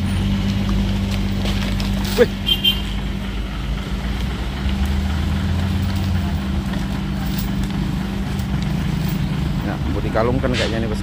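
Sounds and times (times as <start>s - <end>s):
deep low hum: 0.0s - 10.5s
truck engine idling: 0.0s - 11.0s.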